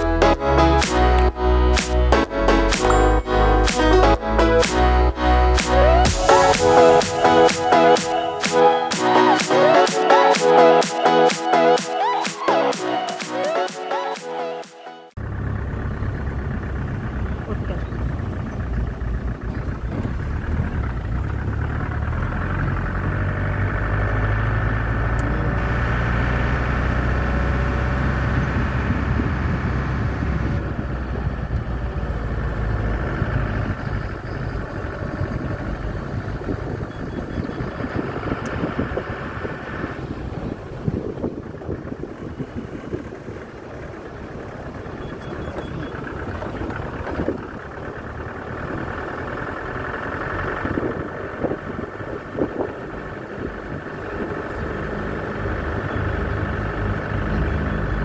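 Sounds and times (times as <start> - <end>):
vehicle engine humming: 0.0 - 58.0.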